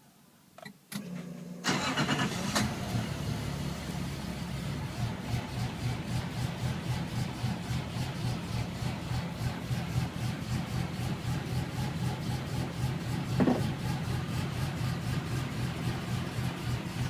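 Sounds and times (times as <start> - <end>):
car engine idling: 1.6 - 17.0.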